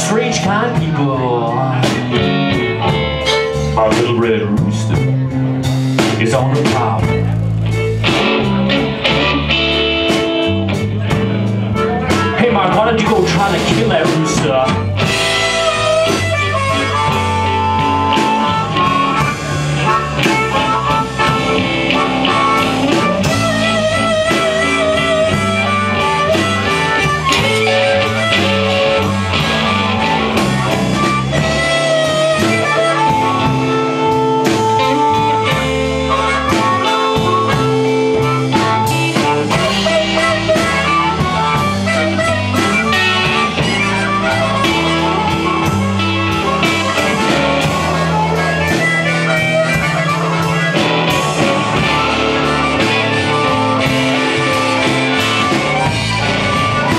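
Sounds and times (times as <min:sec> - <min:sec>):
blues band playing: 0:00.0 - 0:56.9
amplified harmonica solo: 0:06.9 - 0:56.9.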